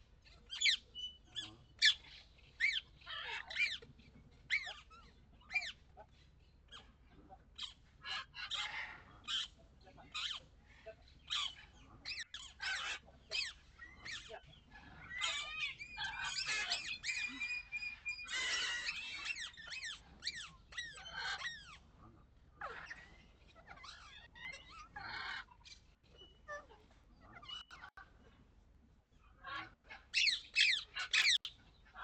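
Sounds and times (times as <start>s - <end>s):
birds chirping and singing: 0.2s - 21.9s, 22.6s - 26.6s, 29.1s - 32.0s.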